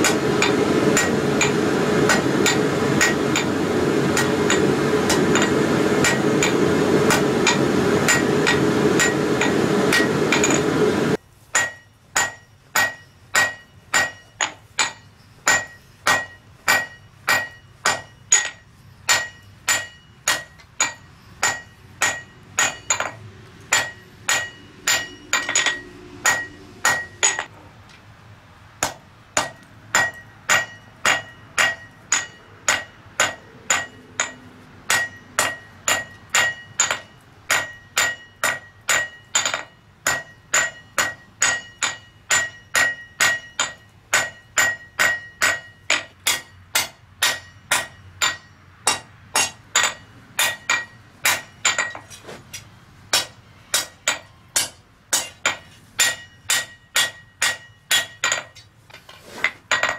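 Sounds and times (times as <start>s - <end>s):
hammer striking steel on anvil: 0.0s - 27.5s, 28.8s - 59.9s.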